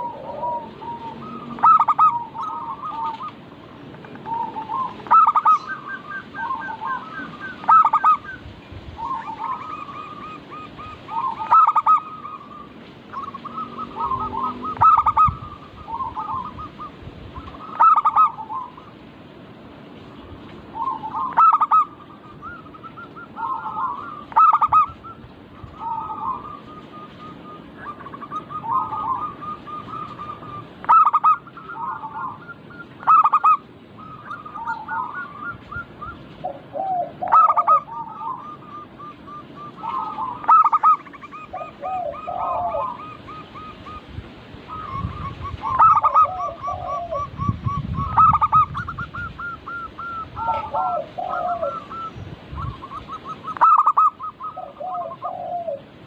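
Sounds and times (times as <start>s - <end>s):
doves cooing: 0.0s - 19.0s, 20.6s - 56.0s.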